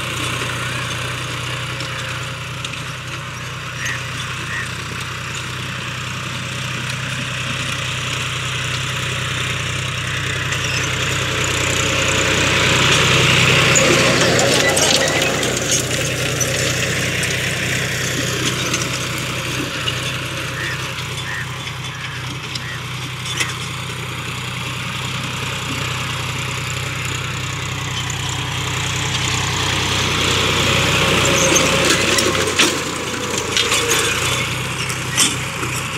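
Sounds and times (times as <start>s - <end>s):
harrow discs scraping soil: 0.0s - 35.9s
tractor diesel engine under load: 0.0s - 35.9s.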